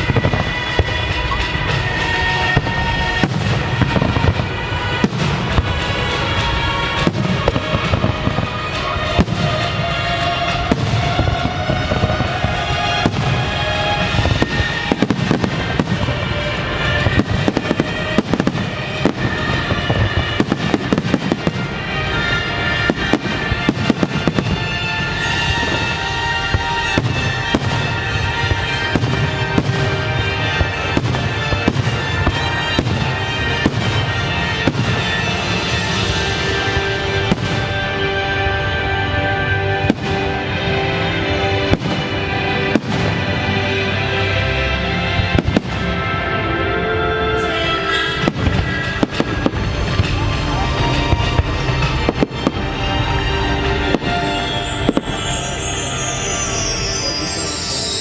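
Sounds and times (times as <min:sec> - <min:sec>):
fireworks bursting and crackling: 0:00.0 - 0:58.0
loud music: 0:00.0 - 0:58.0.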